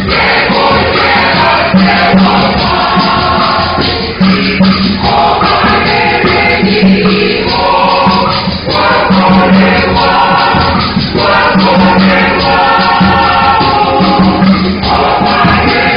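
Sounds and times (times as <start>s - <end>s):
church choir singing: 0.0s - 15.9s.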